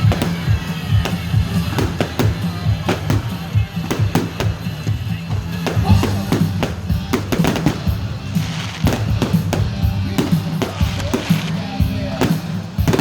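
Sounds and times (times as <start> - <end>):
fireworks bangs and crackles: 0.0 - 13.0
music with heavy bass beat: 0.0 - 13.0.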